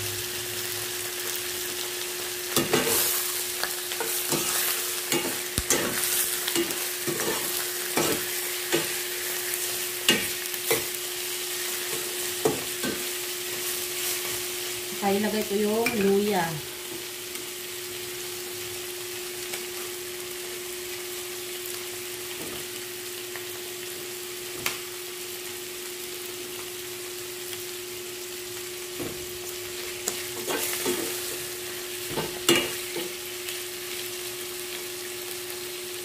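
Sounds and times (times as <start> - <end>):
fish sizzling in a pan: 0.0 - 36.0.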